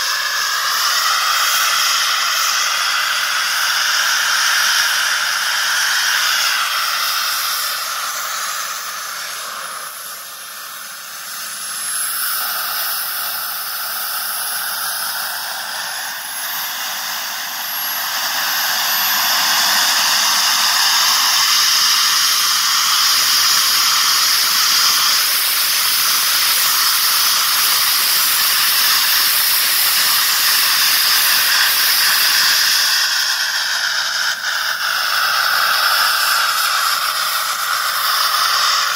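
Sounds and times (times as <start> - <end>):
high-pitched turbine whine: 0.0 - 38.9
model jet turbine hissing: 0.0 - 38.9.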